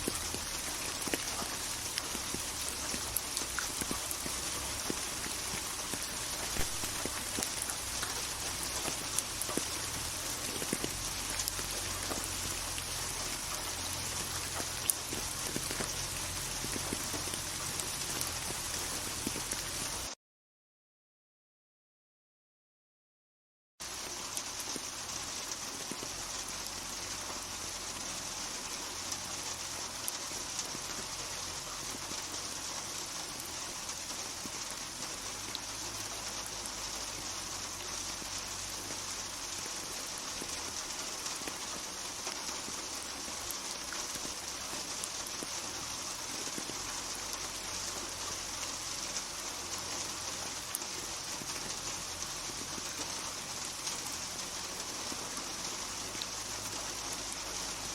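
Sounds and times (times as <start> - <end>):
steady rain: 0.0 - 20.2, 23.8 - 57.9.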